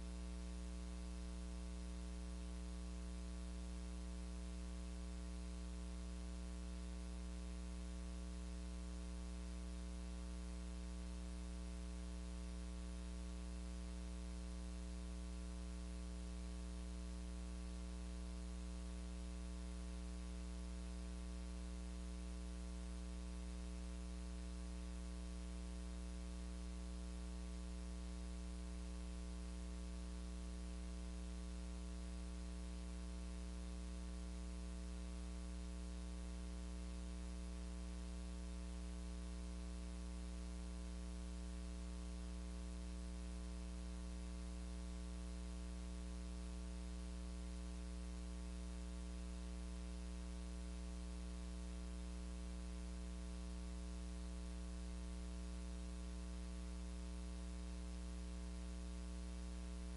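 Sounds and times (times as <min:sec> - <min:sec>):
electrical mains hum: 0:00.0 - 0:50.2, 0:52.2 - 0:59.9.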